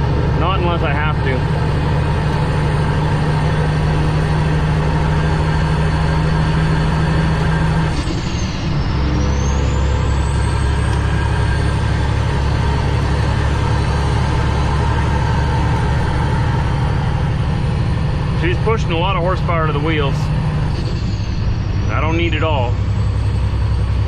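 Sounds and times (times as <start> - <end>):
truck diesel engine under load: 0.0 - 24.0.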